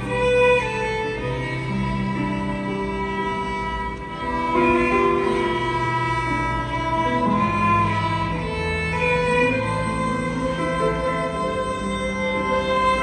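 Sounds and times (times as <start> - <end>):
sustained string chords: 0.0 - 13.0
violin playing slow melody: 0.0 - 13.0.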